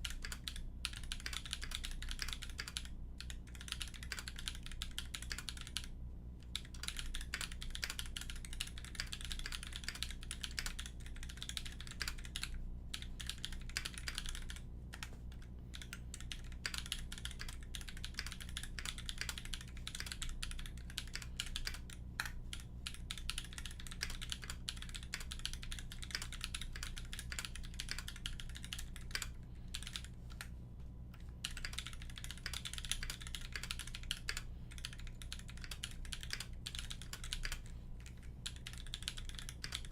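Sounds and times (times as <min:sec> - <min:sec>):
mechanical keyboard typing: 0:00.0 - 0:30.5, 0:31.2 - 0:39.9.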